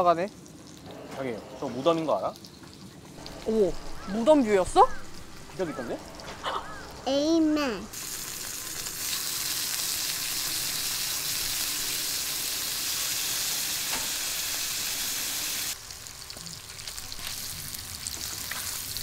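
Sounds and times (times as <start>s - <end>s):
meat sizzling on griddle: 0.0s - 19.0s.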